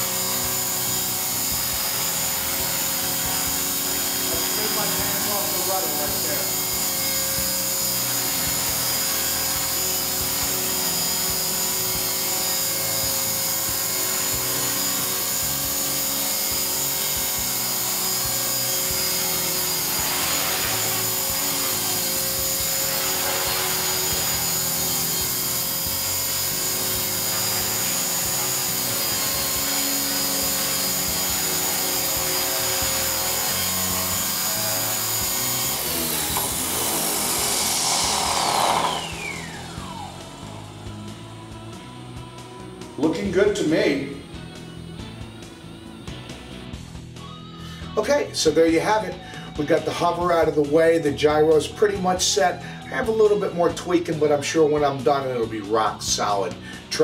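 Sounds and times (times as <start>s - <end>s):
rc helicopter whine: 0.0s - 50.5s.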